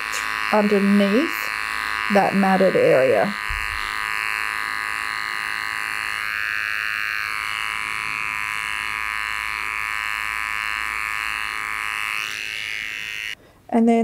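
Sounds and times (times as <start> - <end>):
electric hair clipper buzzing: 0.0 - 13.4.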